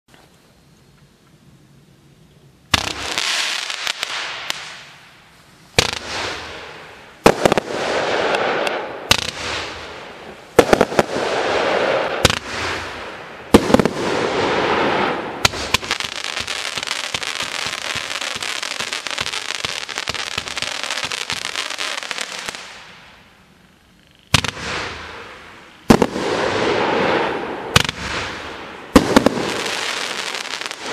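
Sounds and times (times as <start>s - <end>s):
firework crackling: 2.7s - 23.5s, 24.3s - 30.9s.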